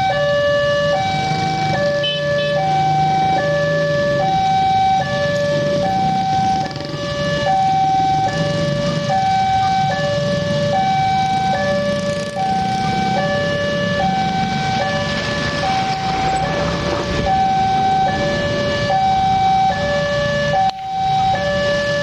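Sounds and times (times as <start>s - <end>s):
motorcycle traffic rumble: 0.0s - 22.0s
two-tone crossing alarm: 0.0s - 22.0s.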